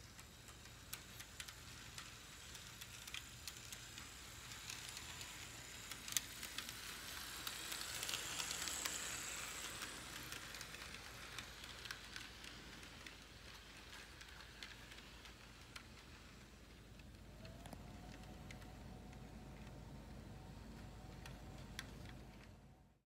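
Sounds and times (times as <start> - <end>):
model train wheels hissing on rail: 0.0 - 22.7.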